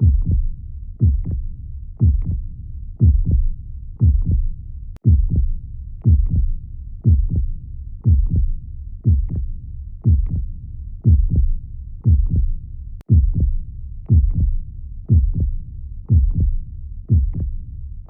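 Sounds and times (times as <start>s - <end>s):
heartbeat double thump: 0.0s - 1.4s, 2.0s - 2.4s, 3.0s - 17.6s.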